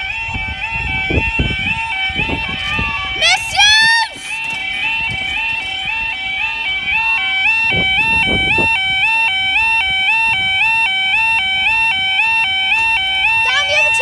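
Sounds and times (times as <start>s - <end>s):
level crossing two-tone alarm: 0.0s - 14.0s.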